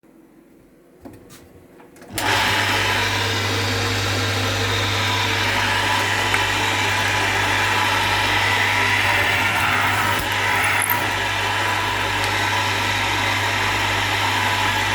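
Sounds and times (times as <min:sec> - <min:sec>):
electric motor humming and whirring: 0:02.2 - 0:14.9.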